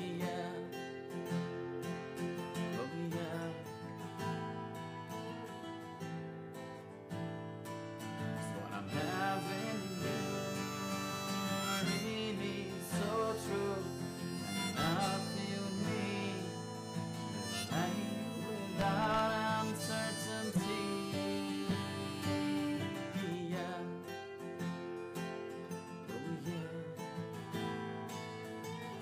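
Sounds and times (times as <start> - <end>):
pop music with guitar and harmonica: 0.0 - 29.0.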